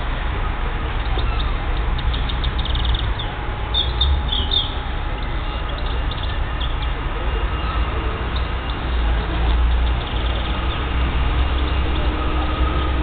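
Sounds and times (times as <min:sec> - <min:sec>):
steady low rumble: 0:00.0 - 0:13.0
small birds chirping: 0:01.0 - 0:07.0, 0:08.3 - 0:12.9.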